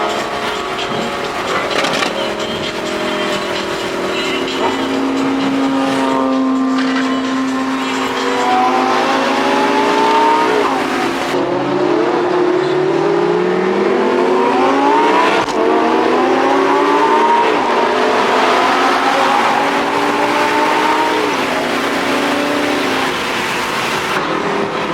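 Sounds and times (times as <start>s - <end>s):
sports car engine accelerating: 0.0s - 24.9s.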